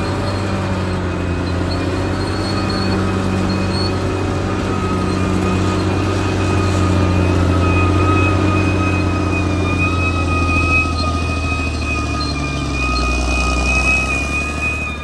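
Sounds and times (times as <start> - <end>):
bulldozer diesel engine running: 0.0 - 15.0
high-pitched whine: 0.0 - 15.0.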